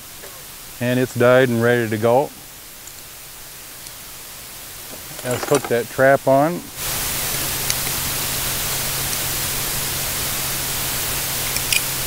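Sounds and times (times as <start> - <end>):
electronic static hiss: 0.0 - 12.0.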